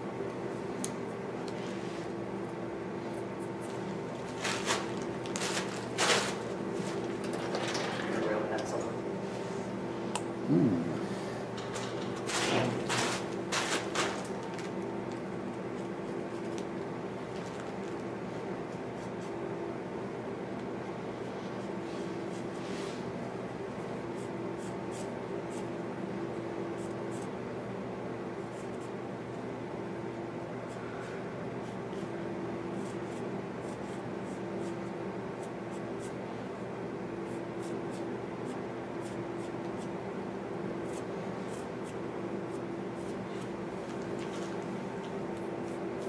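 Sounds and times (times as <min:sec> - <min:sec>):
steady room hum: 0:00.0 - 0:46.0.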